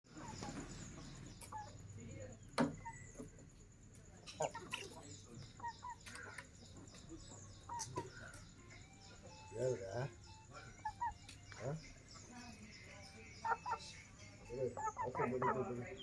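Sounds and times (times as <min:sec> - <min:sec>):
chickens calling: 0:00.1 - 0:16.0.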